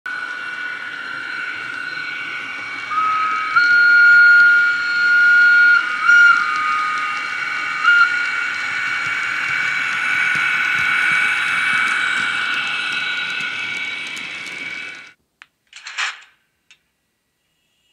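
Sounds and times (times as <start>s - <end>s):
electric locomotive running hum: 0.1s - 15.2s
two-tone locomotive whistle: 0.1s - 15.2s.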